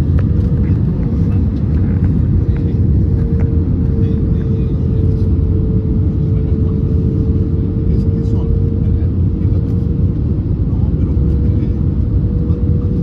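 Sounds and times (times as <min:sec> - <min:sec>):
airliner cabin rumble: 0:00.0 - 0:13.0
steady droning tone: 0:00.0 - 0:13.0.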